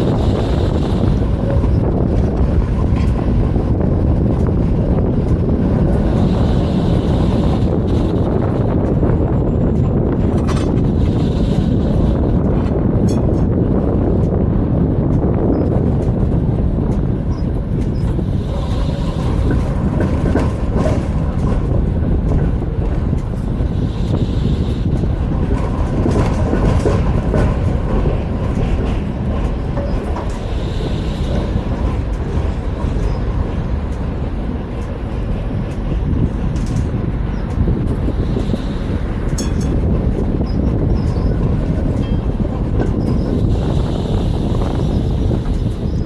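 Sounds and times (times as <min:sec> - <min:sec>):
tram wheels rumbling on rails: 0:00.0 - 0:46.0.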